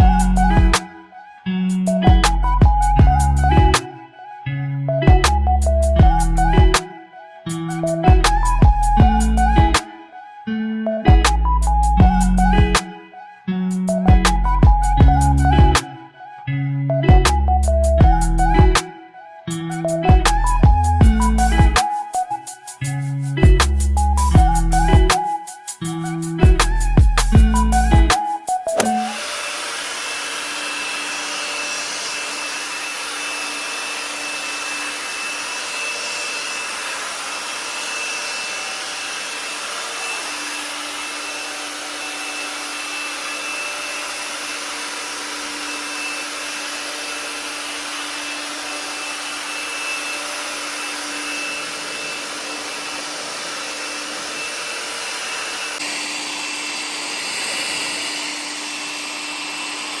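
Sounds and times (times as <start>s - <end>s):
electric fan motor whining: 0.0s - 16.4s, 17.1s - 60.0s.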